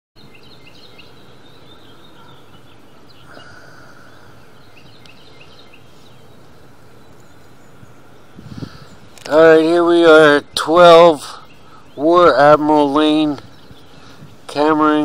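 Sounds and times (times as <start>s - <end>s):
birds chirping: 0.2s - 15.0s
steady background noise: 0.2s - 15.0s.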